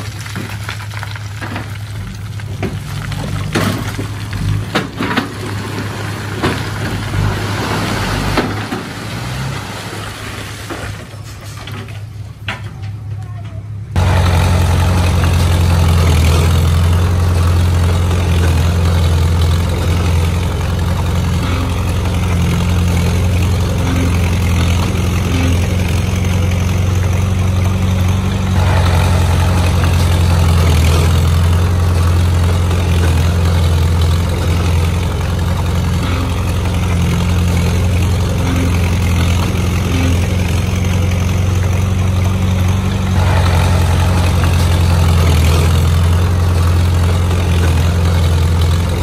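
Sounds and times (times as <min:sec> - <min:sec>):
diesel engine humming: 0:00.0 - 0:49.0.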